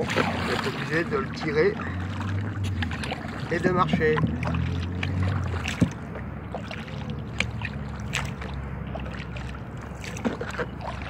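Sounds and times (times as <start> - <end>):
paddle strokes splashing: 0.0 - 11.0.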